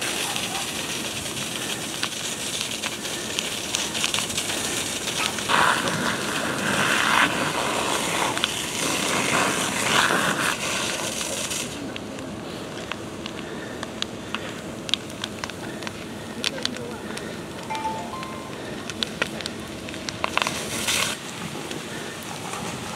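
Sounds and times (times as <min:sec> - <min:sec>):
burning timbers crackling: 0:00.0 - 0:22.9
fire hose water spray: 0:00.0 - 0:22.9.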